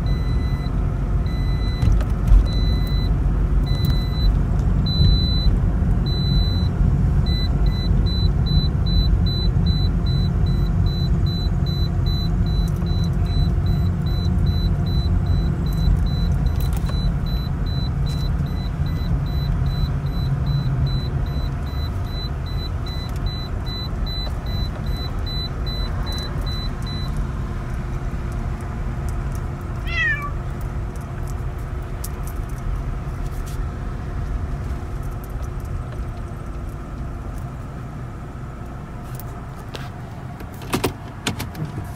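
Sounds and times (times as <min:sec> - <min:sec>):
car cabin road and engine rumble: 0:00.0 - 0:41.9.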